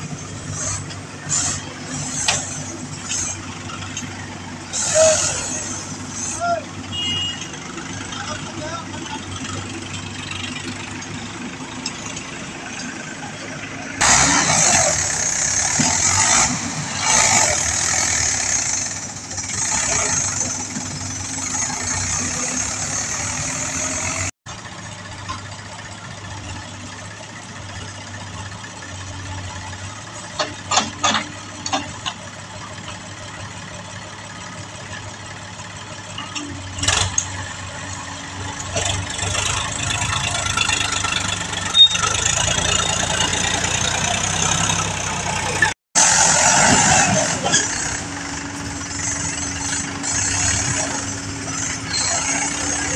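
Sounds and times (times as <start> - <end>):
diesel tractor engine under load: 0.0 - 52.9.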